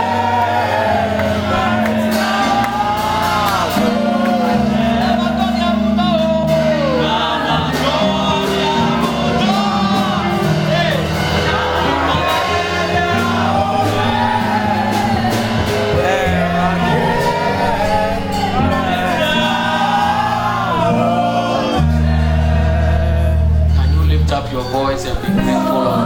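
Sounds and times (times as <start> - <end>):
held low instrumental notes: 0.0 - 26.0
voices singing: 0.0 - 26.0.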